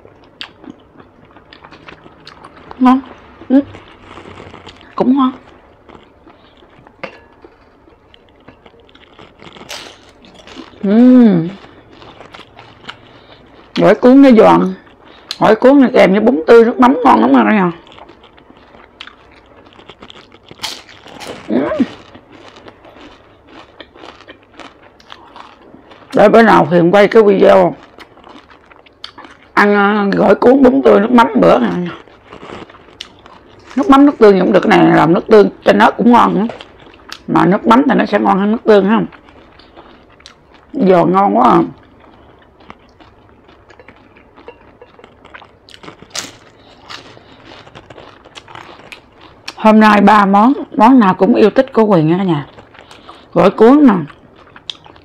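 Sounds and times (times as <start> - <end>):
crunching fried spring roll: 0.1 - 15.5, 17.2 - 35.2, 36.0 - 55.0.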